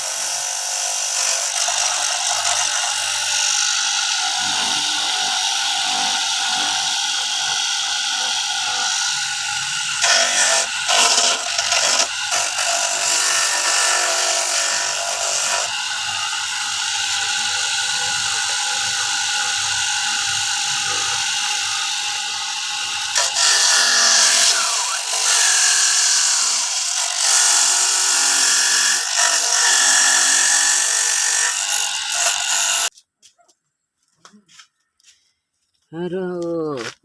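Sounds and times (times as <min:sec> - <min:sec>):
coconut grating machine whirring: 0:00.0 - 0:32.9.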